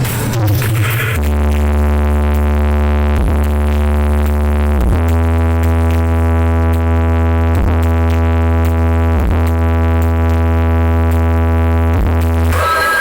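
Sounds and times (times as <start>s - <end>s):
loud electronic dance music: 0.0s - 13.0s.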